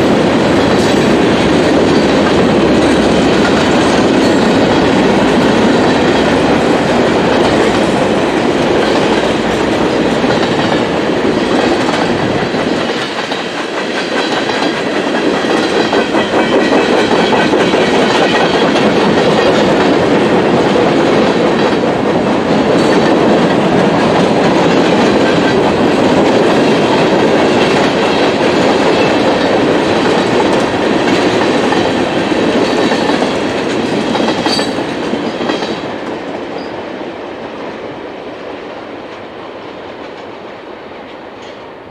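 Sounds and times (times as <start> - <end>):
train wheels clacking over rail joints: 0.0 - 36.7.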